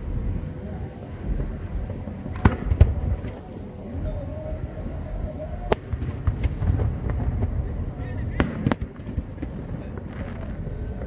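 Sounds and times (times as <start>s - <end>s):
distant firework rumble: 0.0s - 11.0s.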